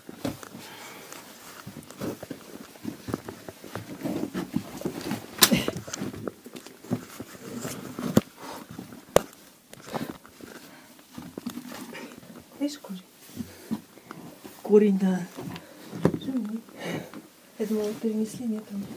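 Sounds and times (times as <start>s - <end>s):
shuffling and scraping on rock: 0.1s - 18.9s.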